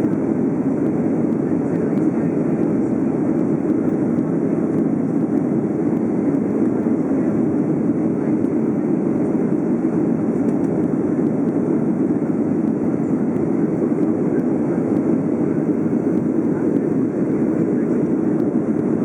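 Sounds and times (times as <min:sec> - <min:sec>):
jet engine noise during takeoff: 0:00.0 - 0:19.0.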